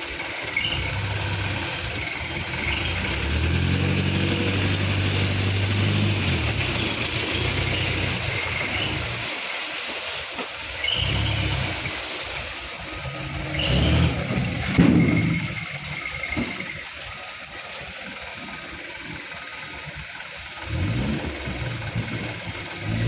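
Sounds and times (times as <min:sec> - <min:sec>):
diesel truck engine revving: 0:00.0 - 0:23.0.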